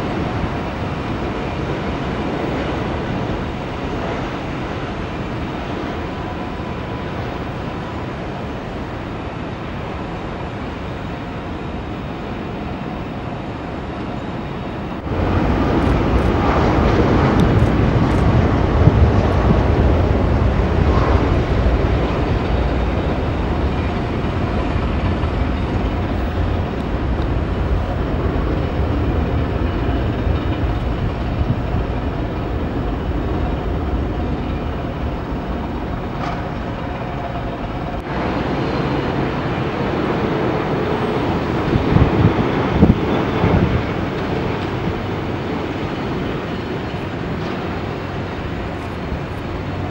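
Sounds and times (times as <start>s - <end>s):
distant jet airliner engines: 0.0s - 49.9s.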